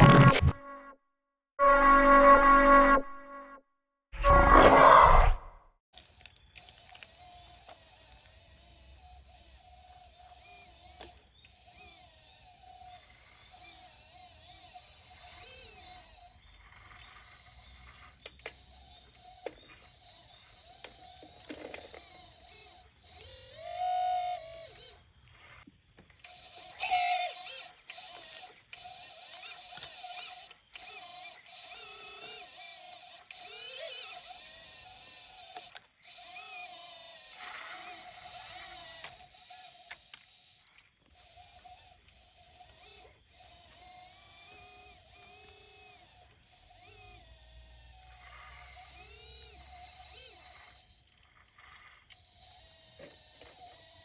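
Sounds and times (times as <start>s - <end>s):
hydraulic pump motor whine: 1.6s - 3.5s, 4.2s - 54.0s
small mechanical clicks: 6.0s - 54.0s.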